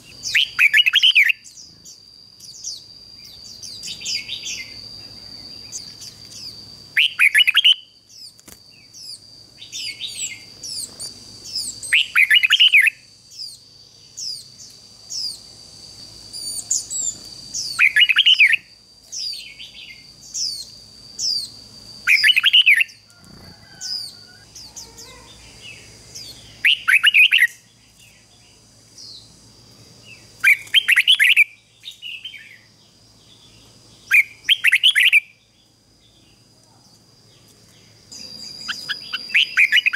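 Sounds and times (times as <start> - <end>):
bird song warbled phrases: 0.0 - 15.6, 16.2 - 39.9
high-pitched whine: 0.0 - 36.4.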